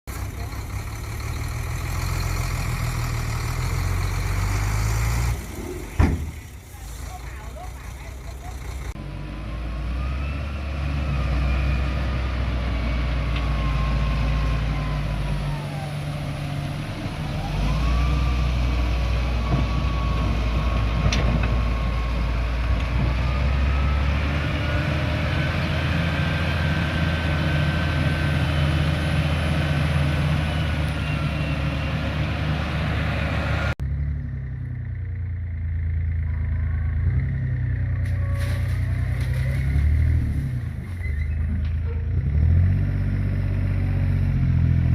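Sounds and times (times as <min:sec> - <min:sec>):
construction machine diesel engine: 0:00.0 - 0:44.9.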